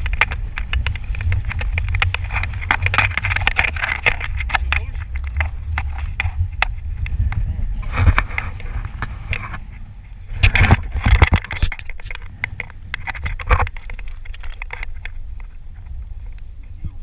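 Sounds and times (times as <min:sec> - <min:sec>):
fish flopping on stones: 0:00.0 - 0:09.7, 0:10.4 - 0:15.6
footsteps on scree: 0:00.0 - 0:15.6
rocks clicking and scraping: 0:00.0 - 0:17.0
wind on microphone: 0:00.0 - 0:17.0.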